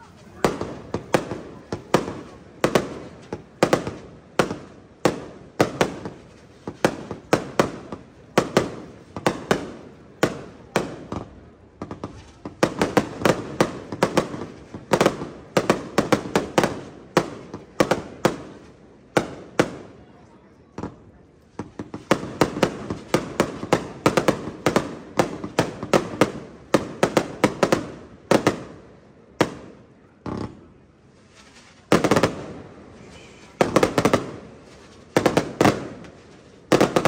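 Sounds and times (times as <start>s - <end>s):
fireworks bursting: 0.0s - 37.0s.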